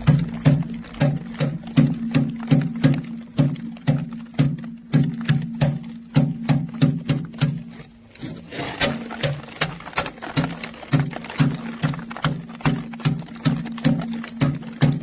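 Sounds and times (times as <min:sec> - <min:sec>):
sharp threshing knocks: 0:00.0 - 0:15.0.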